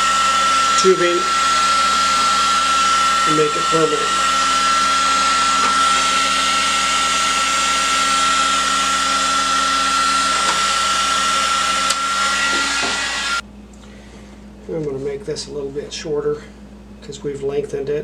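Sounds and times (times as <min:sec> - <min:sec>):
heat gun fan whining: 0:00.0 - 0:17.9.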